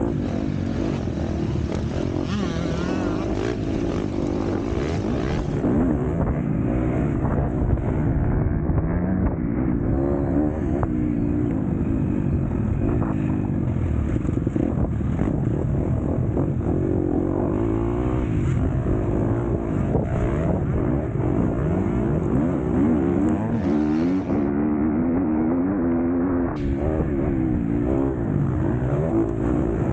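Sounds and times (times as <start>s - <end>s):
motocross bike engine revving: 0.0s - 29.9s.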